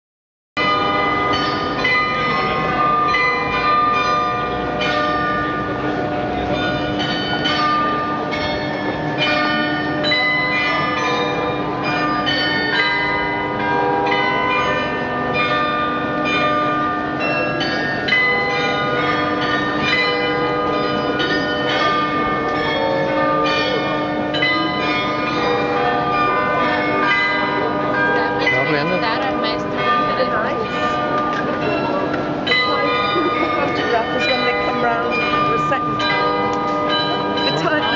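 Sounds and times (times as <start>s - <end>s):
glockenspiel bells playing a tune: 6.5s - 37.9s.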